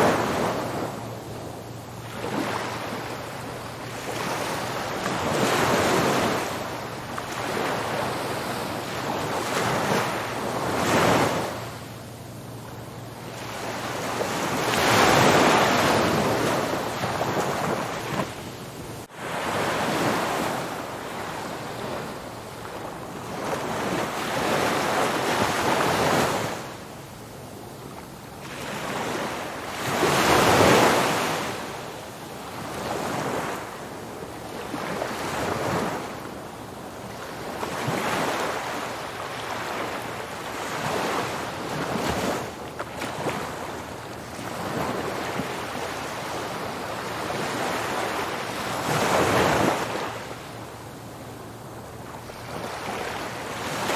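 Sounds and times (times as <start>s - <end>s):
waves breaking on a beach: 0.0s - 53.9s.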